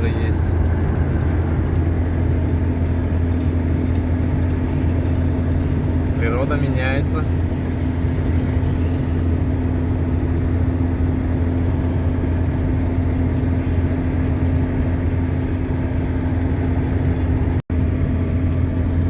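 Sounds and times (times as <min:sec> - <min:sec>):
engine and road drone in cab: 0:00.0 - 0:19.0
low hum: 0:00.0 - 0:19.0.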